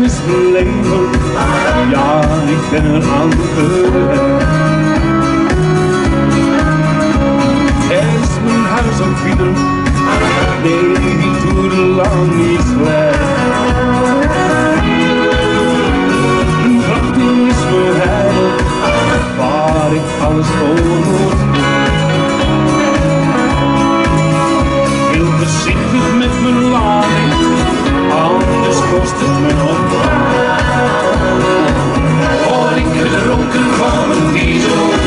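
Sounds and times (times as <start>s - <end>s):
man singing into a microphone: 0.0s - 5.6s, 6.5s - 23.6s, 24.7s - 35.0s
pop backing track with beat: 0.0s - 35.0s.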